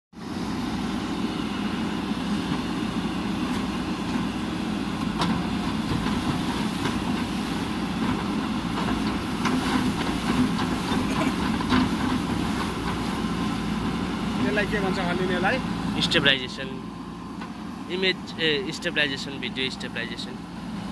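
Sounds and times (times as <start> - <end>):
diesel engine running: 0.2 - 20.9.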